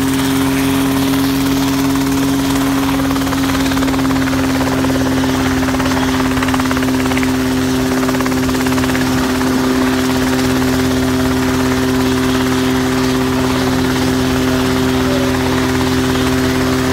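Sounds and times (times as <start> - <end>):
helicopter engine and rotors: 0.0 - 16.9.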